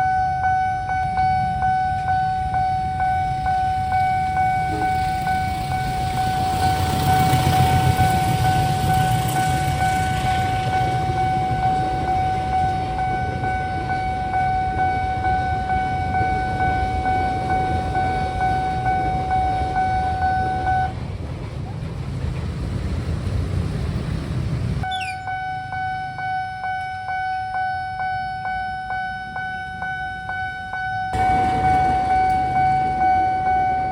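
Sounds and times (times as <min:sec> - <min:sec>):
level crossing alarm tone: 0:00.0 - 0:21.0, 0:24.8 - 0:33.9
train rumbling past: 0:00.0 - 0:25.2, 0:29.9 - 0:33.9.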